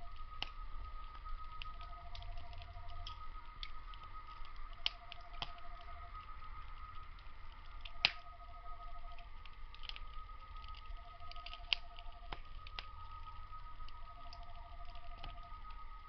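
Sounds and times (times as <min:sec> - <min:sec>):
firewood crackling and popping: 0:00.0 - 0:16.0
insects high trill: 0:00.0 - 0:16.0
insects pulsed trill: 0:00.0 - 0:16.0.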